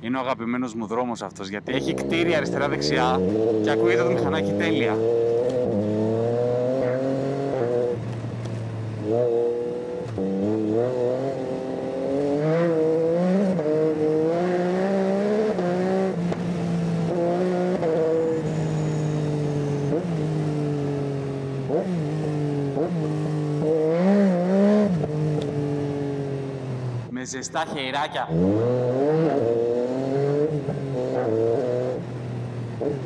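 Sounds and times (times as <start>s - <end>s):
motorcycle engine accelerating: 1.6s - 33.0s.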